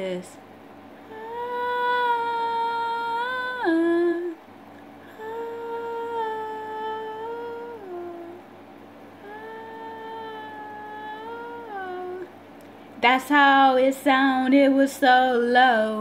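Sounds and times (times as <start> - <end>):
woman singing wordless notes: 1.0 - 4.4, 5.0 - 8.5, 9.2 - 12.3, 13.0 - 16.0.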